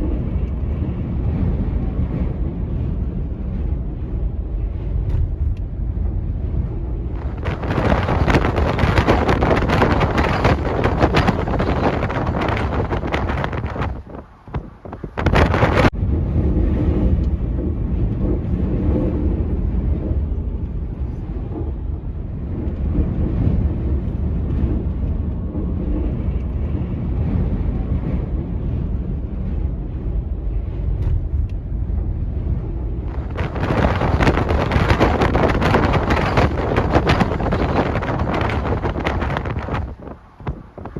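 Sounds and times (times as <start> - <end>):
gust rough hiss: 0.0 - 40.9
wind buffeting microphone: 0.0 - 40.9.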